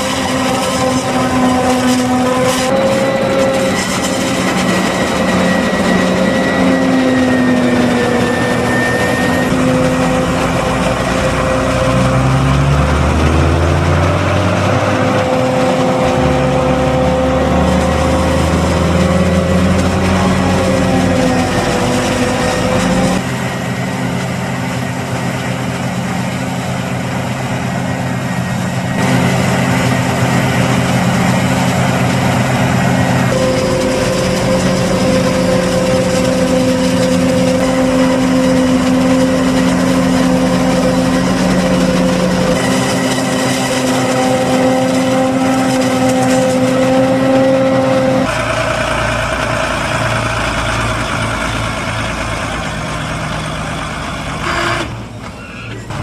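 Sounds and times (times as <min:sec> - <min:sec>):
diesel engine drone: 0:00.0 - 0:56.0
forage harvester high whine: 0:00.0 - 0:56.0.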